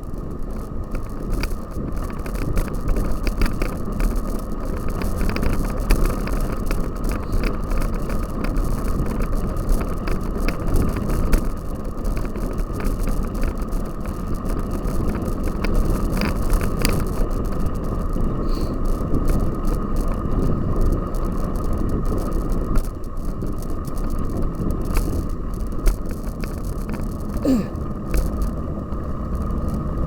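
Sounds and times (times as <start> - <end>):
bike tyres on rough ground: 0.0 - 30.0.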